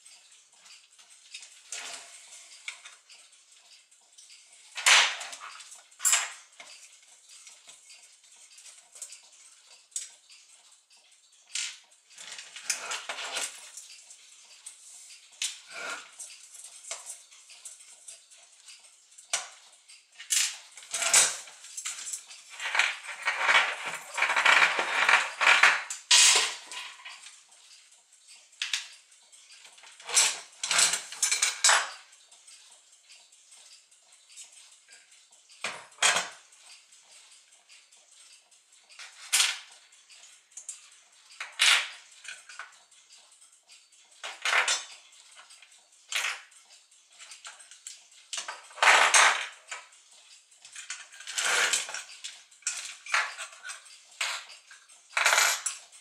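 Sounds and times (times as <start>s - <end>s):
clock parts clicking and clinking: 0.0s - 56.0s.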